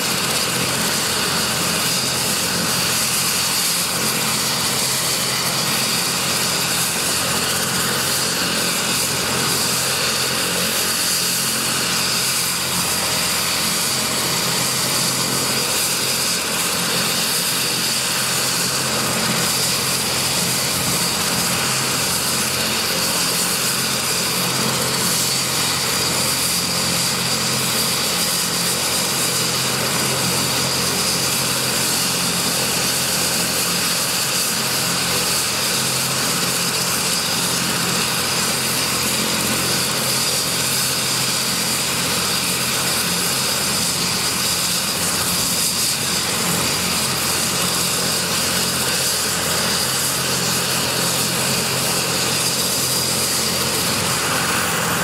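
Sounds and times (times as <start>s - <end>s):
helicopter turbine whine: 0.0s - 55.0s.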